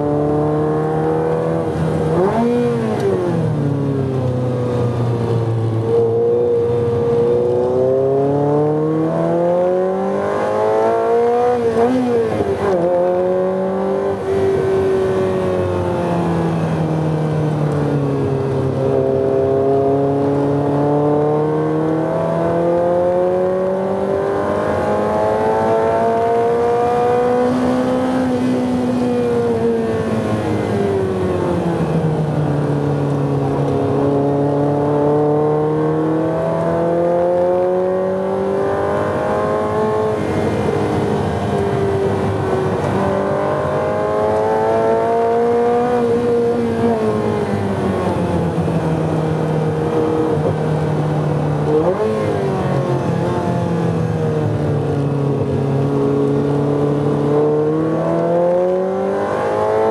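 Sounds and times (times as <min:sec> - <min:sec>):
car engine under hard driving: 0:00.0 - 0:59.9.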